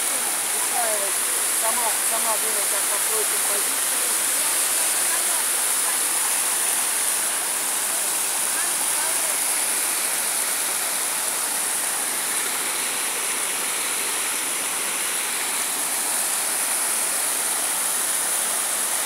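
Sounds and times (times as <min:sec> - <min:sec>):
waterfall rushing over boulders: 0:00.0 - 0:19.0.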